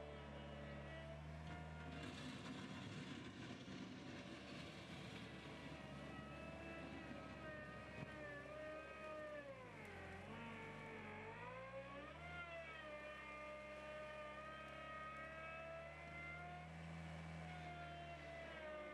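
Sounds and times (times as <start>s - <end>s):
loader engine running: 0.0s - 18.9s.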